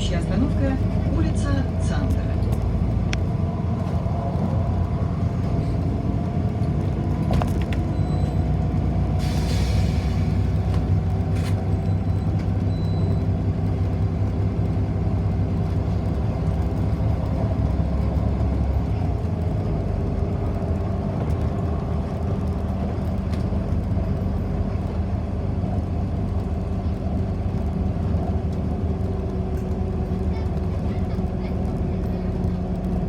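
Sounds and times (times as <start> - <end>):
bus engine drone: 0.0 - 33.0
road noise: 0.0 - 33.0.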